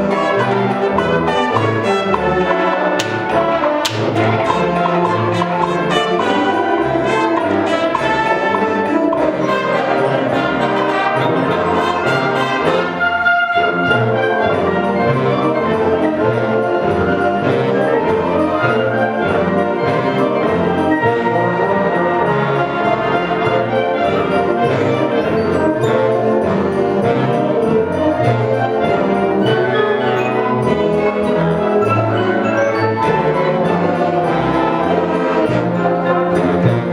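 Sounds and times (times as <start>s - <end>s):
concert band playing: 0.0s - 36.9s.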